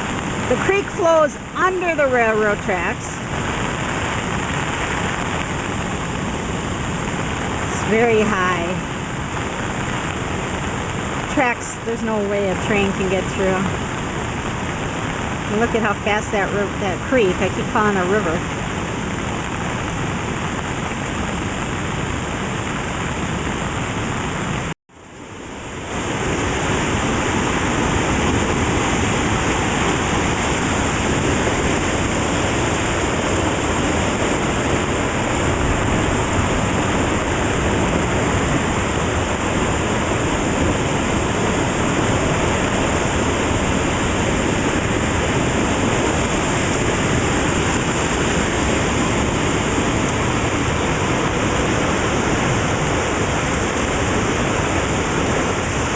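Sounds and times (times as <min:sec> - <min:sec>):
creek rushing: 0:00.0 - 0:55.9
falling rain: 0:00.0 - 0:55.9.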